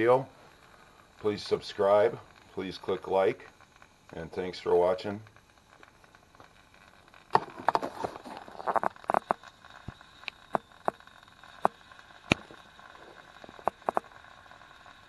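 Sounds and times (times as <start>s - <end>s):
model steam boiler boiling: 0.0s - 15.0s
sharp pops and crackles: 0.0s - 15.0s.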